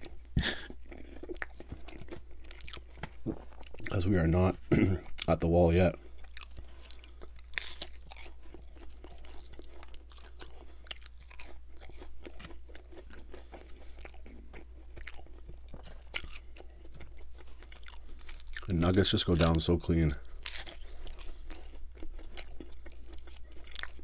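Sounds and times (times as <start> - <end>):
chewing crispy chicken nuggets: 0.0 - 24.0.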